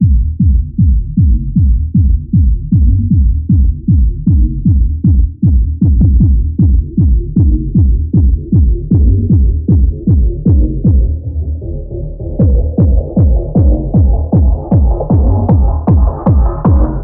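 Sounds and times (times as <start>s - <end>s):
kick drum: 0.0s - 11.2s, 12.4s - 17.0s
low bass: 0.0s - 17.0s
muffled techno music: 0.0s - 17.0s.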